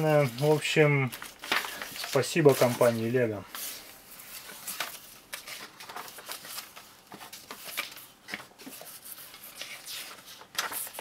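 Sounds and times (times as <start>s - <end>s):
book pages turning: 0.0s - 11.0s.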